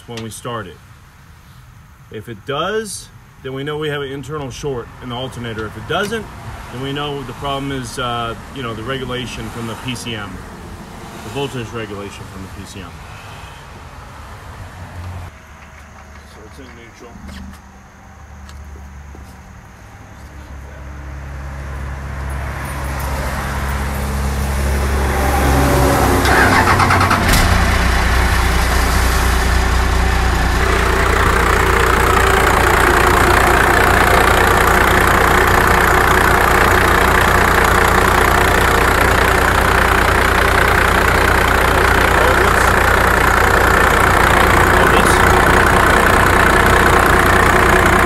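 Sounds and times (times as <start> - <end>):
diesel engine starting and idling: 3.5 - 15.4, 20.5 - 48.0.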